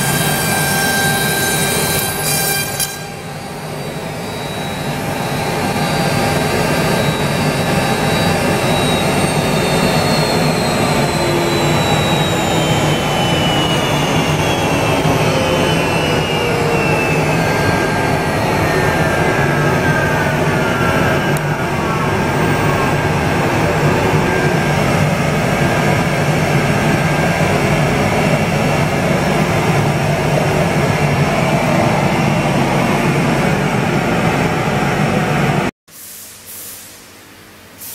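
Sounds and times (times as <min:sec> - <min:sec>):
whine sliding down in pitch: 0:03.0 - 0:35.7.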